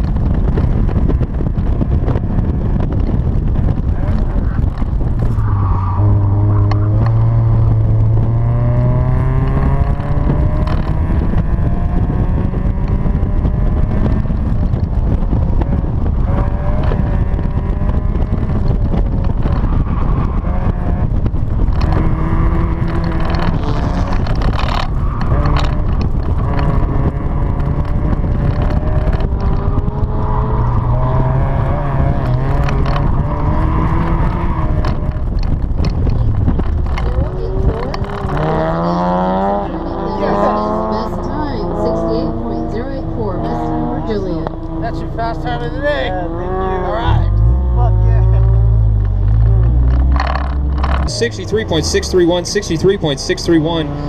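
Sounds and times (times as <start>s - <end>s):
wind rushing: 0.0s - 52.2s
car engine revving: 0.0s - 54.0s.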